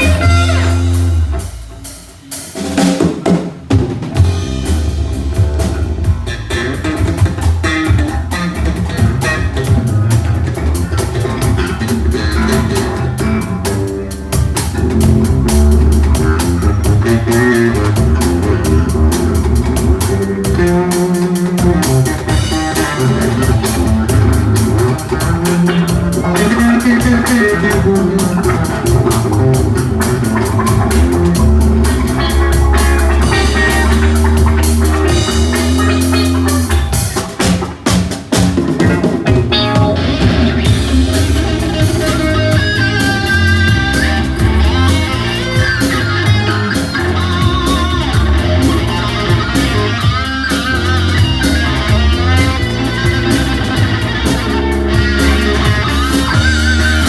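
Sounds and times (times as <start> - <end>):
bass guitar: 0.0 - 57.0
drum kit: 0.0 - 57.0
guitar: 0.0 - 57.0.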